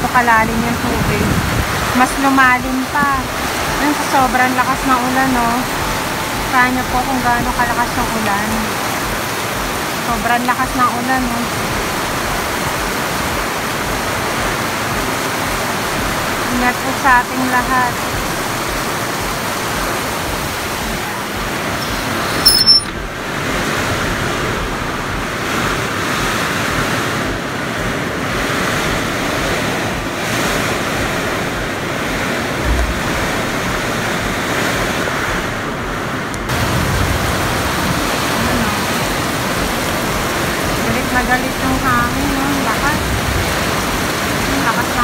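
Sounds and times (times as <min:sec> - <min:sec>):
heavy rain on metal roofs: 0:00.0 - 0:45.0.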